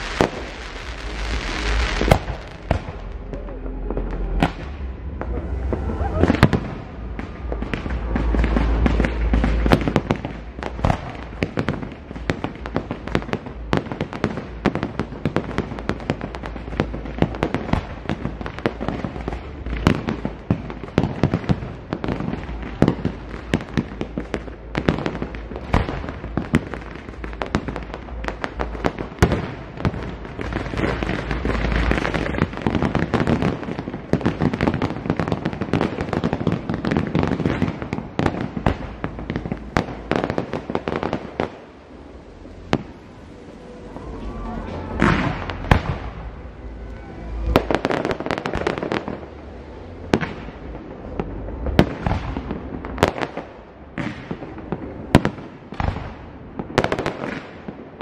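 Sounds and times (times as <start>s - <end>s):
heavy low booms: 0.0s - 36.0s, 36.6s - 55.1s
fireworks bursting: 0.0s - 58.0s.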